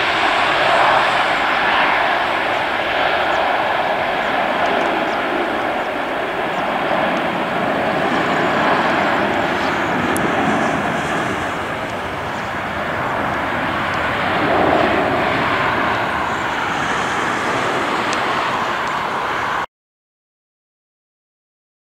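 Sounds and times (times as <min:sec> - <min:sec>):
jet engines at takeoff: 0:00.0 - 0:19.7.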